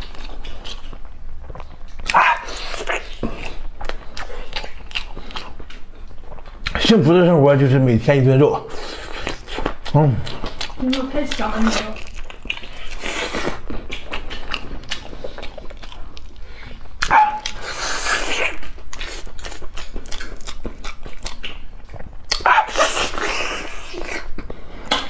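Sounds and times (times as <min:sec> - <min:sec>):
wet chewing and lip-smacking: 0:00.0 - 0:06.8, 0:08.8 - 0:25.0.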